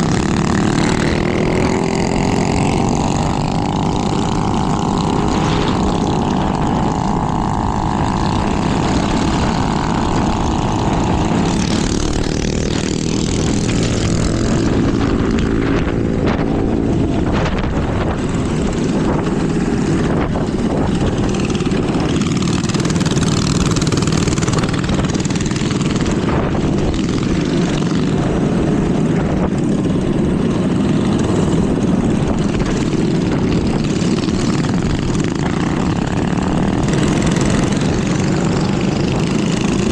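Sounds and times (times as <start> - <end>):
high engine whine: 0.0 - 39.9
minibike engines rumbling: 0.0 - 39.9.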